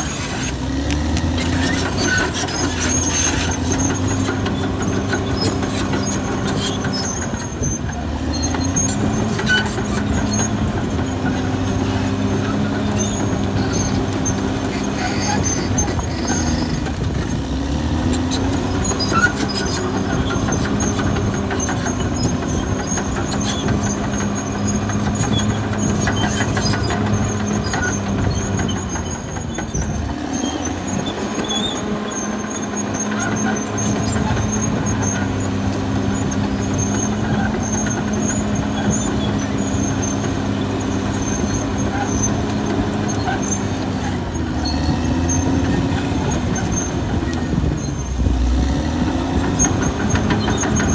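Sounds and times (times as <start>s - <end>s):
bulldozer diesel engine running: 0.0s - 50.9s
steel tracks clanking and squealing: 0.0s - 50.9s.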